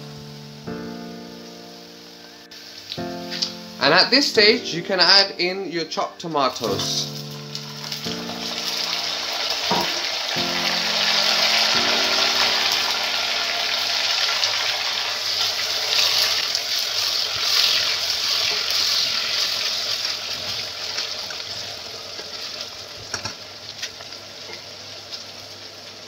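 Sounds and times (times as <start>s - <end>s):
tomatoes sizzling in hot oil: 0.0s - 26.0s.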